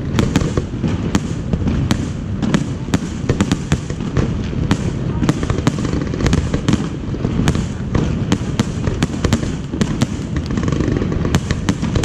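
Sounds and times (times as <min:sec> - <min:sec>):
low rumble of bursting fireworks: 0:00.0 - 0:12.0
sharp firework cracks: 0:00.0 - 0:12.0.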